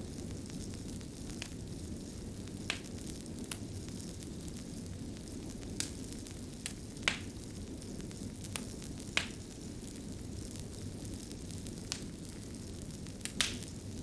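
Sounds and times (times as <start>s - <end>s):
fire burning: 0.0s - 14.0s
fire popping and snapping: 0.0s - 14.0s.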